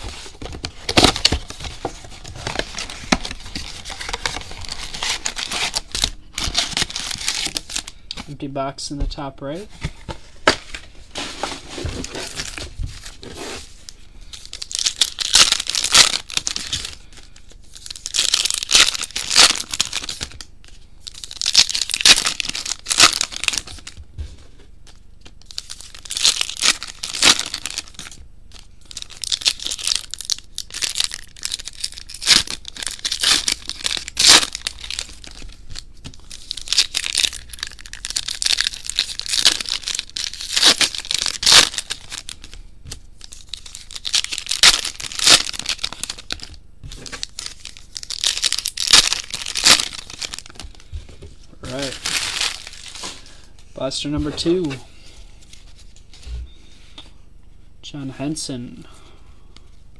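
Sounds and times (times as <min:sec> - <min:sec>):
card pack wrappers tearing and crinkling: 0:00.0 - 0:08.3, 0:10.4 - 0:24.0, 0:24.9 - 0:50.9, 0:51.6 - 0:54.7.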